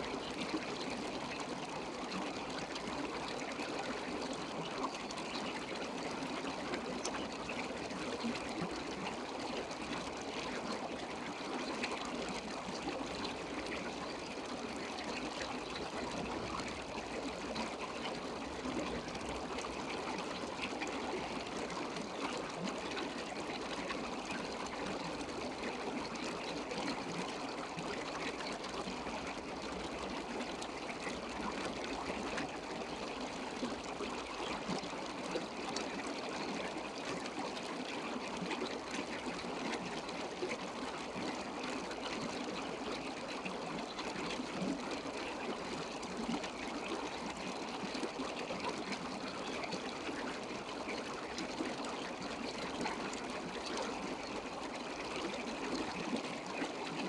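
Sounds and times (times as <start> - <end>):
trickling water: 0.0 - 57.0.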